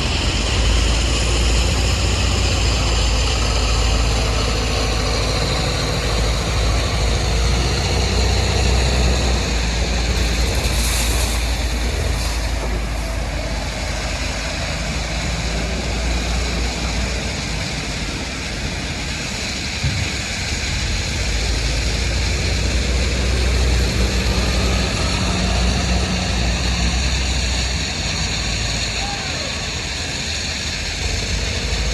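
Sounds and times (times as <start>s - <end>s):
machinery engine droning: 0.0s - 31.9s.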